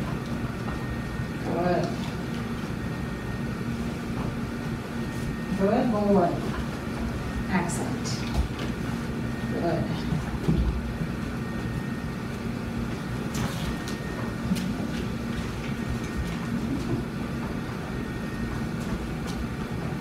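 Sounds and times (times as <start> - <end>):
low mechanical hum and rumble: 0.0 - 20.0.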